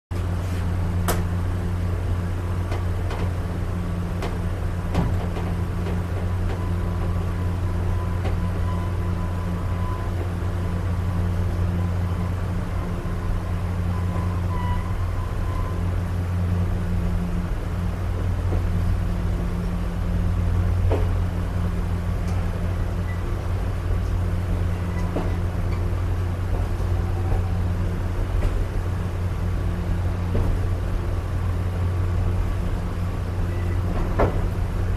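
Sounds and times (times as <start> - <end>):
train wheels rumbling: 0.1 - 34.9.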